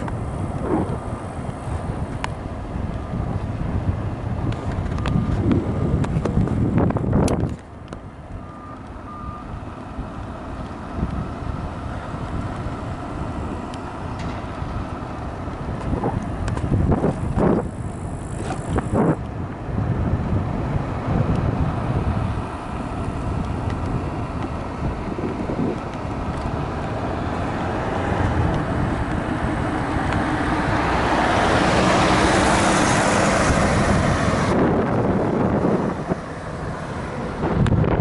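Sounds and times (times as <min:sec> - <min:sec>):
minivan passing: 0:00.0 - 0:38.0
scooter road rumble: 0:00.0 - 0:38.0
wind buffeting microphone: 0:00.0 - 0:38.0.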